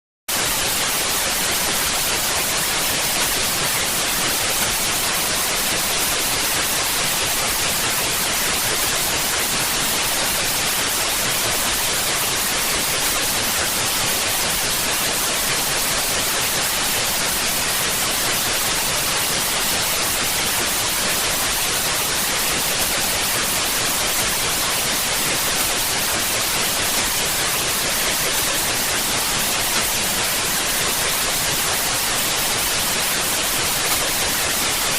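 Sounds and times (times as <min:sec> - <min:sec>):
static hiss: 0:00.3 - 0:34.9.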